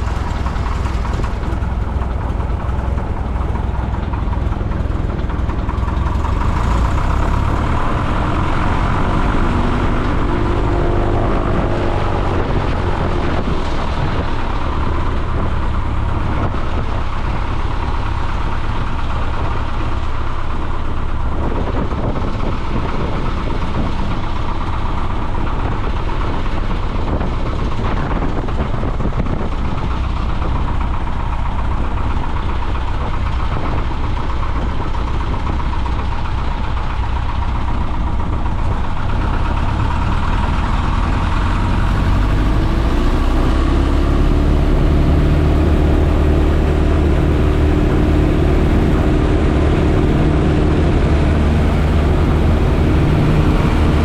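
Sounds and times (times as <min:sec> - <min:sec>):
small plane engine and propeller drone: 0:00.0 - 0:54.0.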